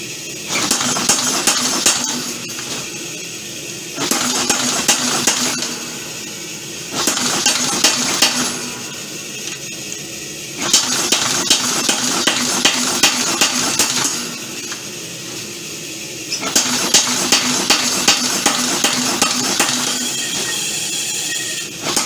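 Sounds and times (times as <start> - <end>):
power hammer striking steel: 0.5 - 3.2, 4.0 - 15.1, 16.3 - 20.9, 21.8 - 22.0.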